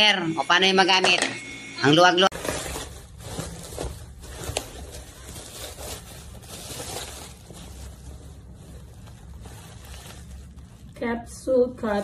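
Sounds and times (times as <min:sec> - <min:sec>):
bubble wrap rustling and crinkling: 0:02.3 - 0:12.0.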